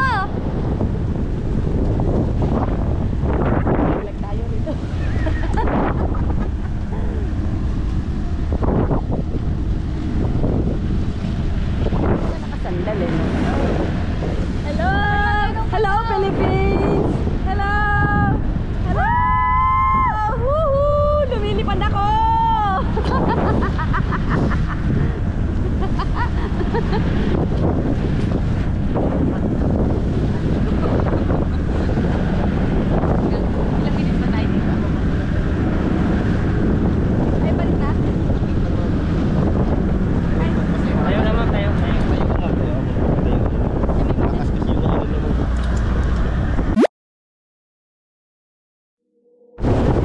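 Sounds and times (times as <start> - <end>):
wind buffeting microphone: 0.0 - 46.8, 49.5 - 50.0.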